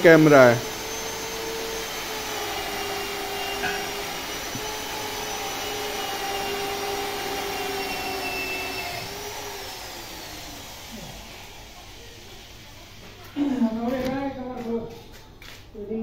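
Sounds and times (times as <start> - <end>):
motor whining with fan noise: 0.0 - 16.0.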